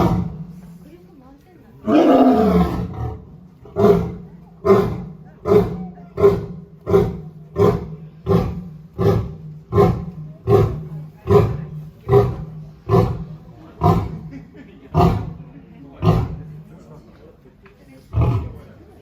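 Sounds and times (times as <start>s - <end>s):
lion grunting: 1.8s - 16.7s, 18.1s - 18.8s.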